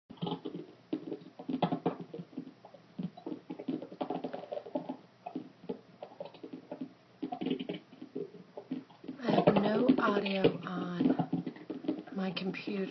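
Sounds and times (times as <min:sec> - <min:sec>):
light tapping and scratching: 0:00.1 - 0:12.9.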